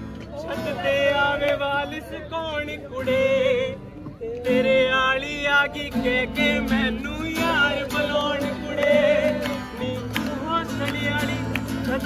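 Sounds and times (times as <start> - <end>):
strummed acoustic guitar: 0.0 - 12.0
man singing: 0.3 - 12.0.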